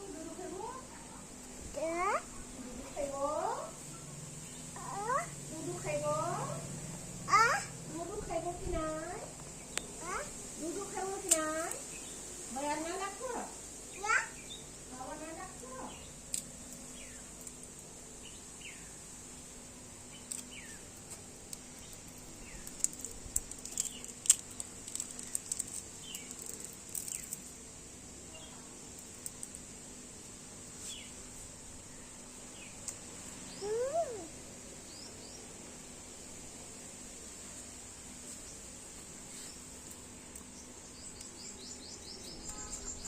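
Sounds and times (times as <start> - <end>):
small birds chirping: 0.2 - 27.5, 28.2 - 29.7, 30.7 - 31.2, 31.8 - 35.6, 38.2 - 43.0.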